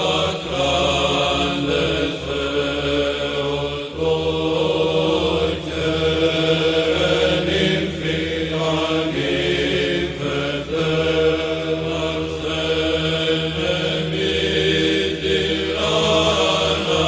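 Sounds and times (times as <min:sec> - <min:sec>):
low held drone: 0:00.0 - 0:17.0
voices chanting long notes: 0:00.0 - 0:17.0.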